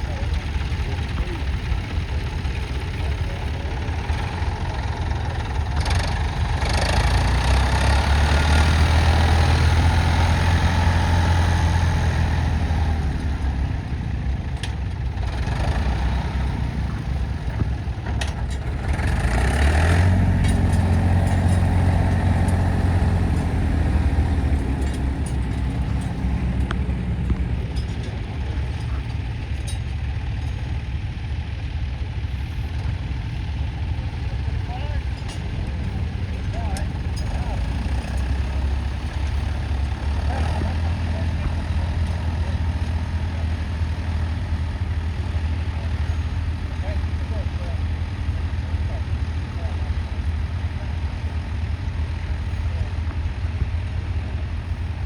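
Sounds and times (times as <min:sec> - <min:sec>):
tractor engines humming: 0:00.0 - 0:55.0.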